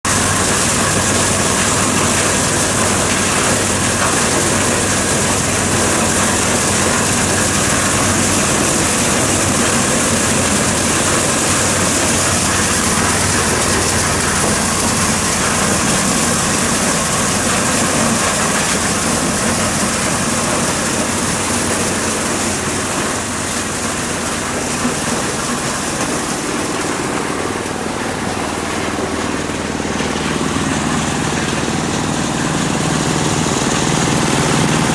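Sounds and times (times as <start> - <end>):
engine hum: 0.0 - 34.9.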